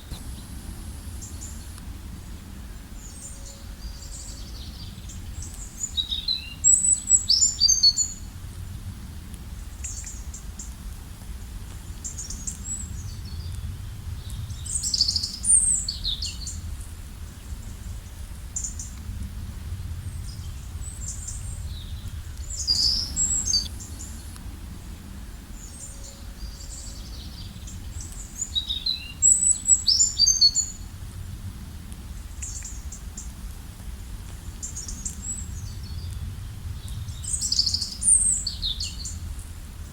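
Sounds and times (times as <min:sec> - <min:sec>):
songbirds chirping: 0:00.0 - 0:08.8, 0:09.5 - 0:10.9, 0:11.6 - 0:19.2, 0:19.9 - 0:39.5
low background rumble: 0:00.0 - 0:39.9.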